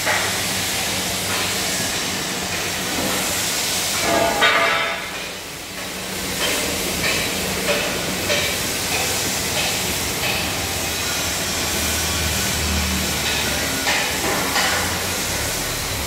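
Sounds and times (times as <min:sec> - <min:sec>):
pulsing machinery hiss: 0:00.0 - 0:16.0.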